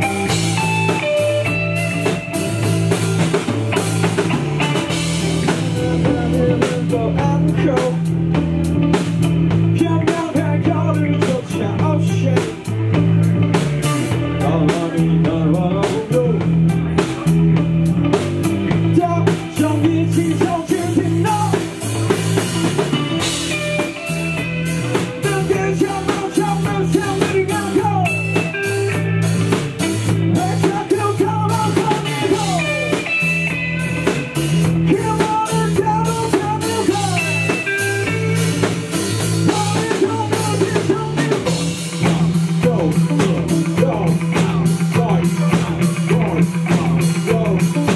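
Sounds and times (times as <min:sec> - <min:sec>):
live rock band playing: 0:00.0 - 0:47.9
sliding guitar lines: 0:00.0 - 0:47.9.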